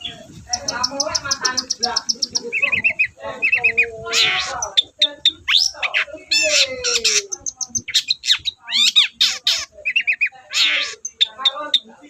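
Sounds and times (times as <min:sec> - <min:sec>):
bird singing varied song: 0:00.0 - 0:12.0.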